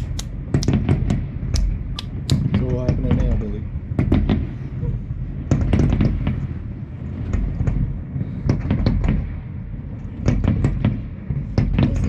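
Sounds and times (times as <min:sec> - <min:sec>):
fireworks bangs and crackles: 0:00.0 - 0:12.0
steady low rumble: 0:00.0 - 0:12.0.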